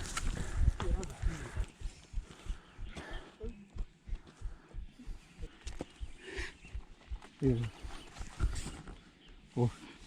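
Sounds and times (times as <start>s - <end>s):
footsteps on hiking trail: 0.0s - 9.4s.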